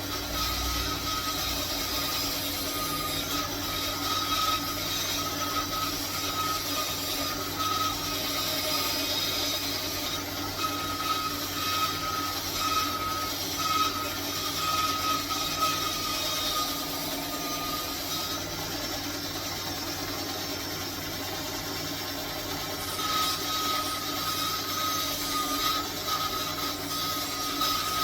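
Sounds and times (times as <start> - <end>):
power tool motor on wood: 0.0 - 28.0.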